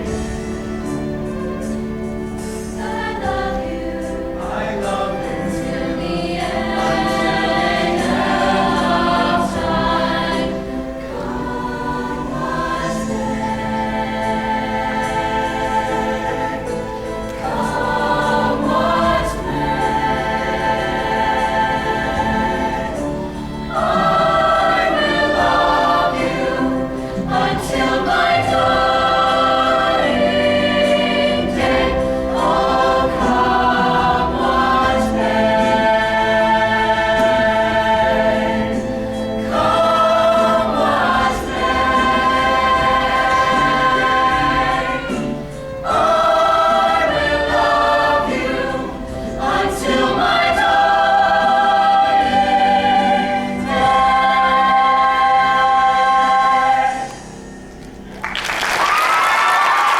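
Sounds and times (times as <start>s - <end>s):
choir singing held chords: 0.0s - 59.9s.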